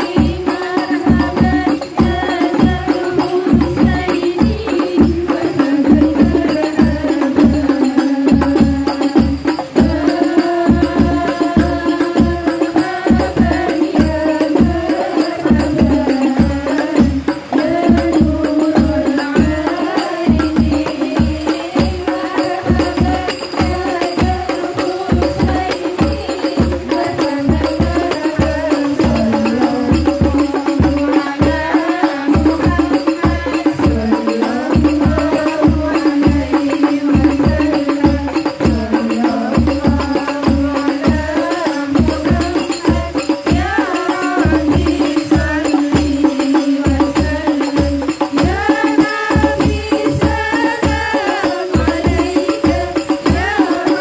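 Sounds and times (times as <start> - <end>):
frame drums struck by hand: 0.0 - 54.0
voices singing: 0.0 - 54.0.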